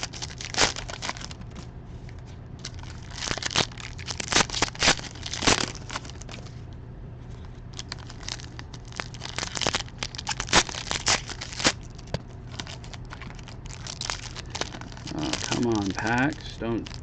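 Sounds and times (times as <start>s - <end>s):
plastic wrapping tearing and crinkling: 0.0s - 1.6s, 2.6s - 6.5s, 7.7s - 17.0s
steady low hum: 0.0s - 17.0s.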